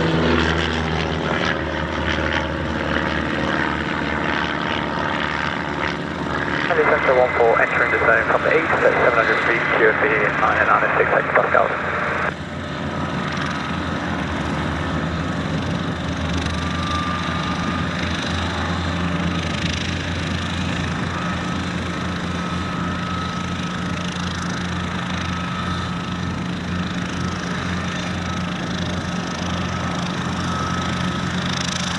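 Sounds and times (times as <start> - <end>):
light aircraft engine droning: 0.0 - 31.9.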